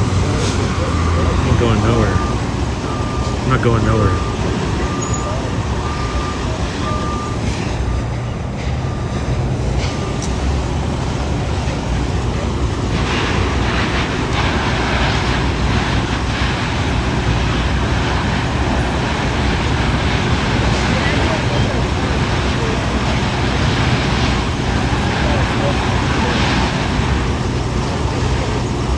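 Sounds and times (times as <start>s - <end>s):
reversing beeper beeps: 0.0s - 12.8s, 17.1s - 28.9s
heavy vehicles rumbling: 0.0s - 28.9s.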